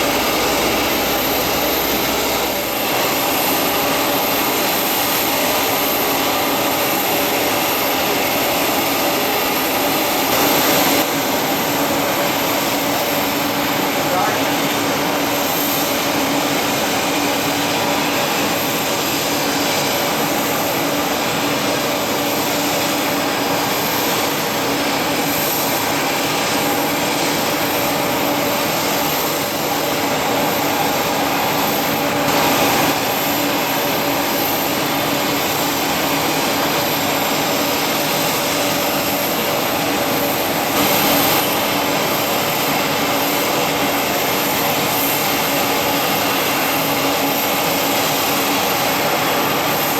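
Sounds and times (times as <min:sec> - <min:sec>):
jet engines running with whine: 0:00.0 - 0:49.9.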